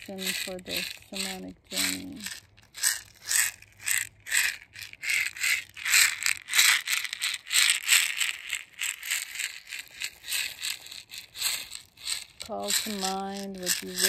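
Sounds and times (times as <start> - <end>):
basket rattle shaking: 0.0 - 14.0.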